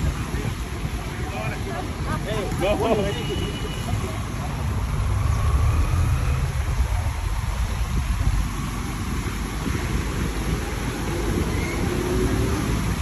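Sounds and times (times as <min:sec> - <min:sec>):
vehicle engine and road noise: 0:00.0 - 0:13.0
wind rumble on microphone: 0:00.0 - 0:13.0.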